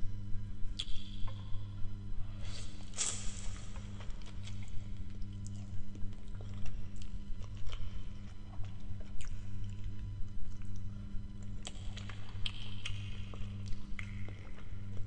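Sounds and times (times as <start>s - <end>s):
chewing and wet mouth sounds: 0.8s - 1.4s, 2.4s - 15.0s.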